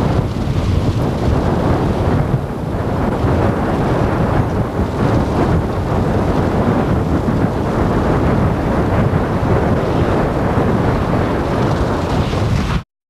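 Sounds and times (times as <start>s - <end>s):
low vehicle rumble: 0.0s - 12.8s
wind buffeting microphone: 0.0s - 12.8s.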